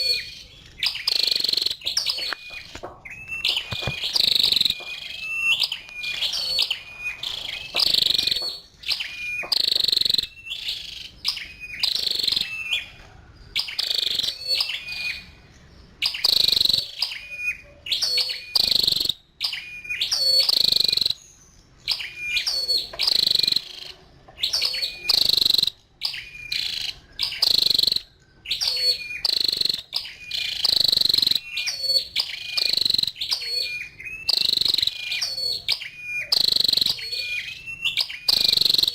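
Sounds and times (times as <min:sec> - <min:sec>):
bird chips and ticks: 0:00.0 - 0:15.2, 0:15.9 - 0:17.2, 0:17.9 - 0:38.9.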